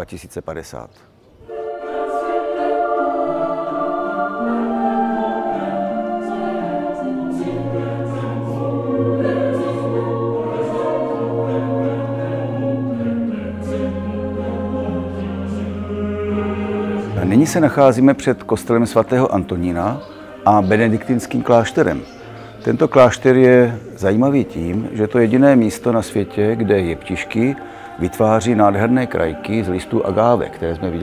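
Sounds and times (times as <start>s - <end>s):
choir singing held chords: 1.3s - 31.0s.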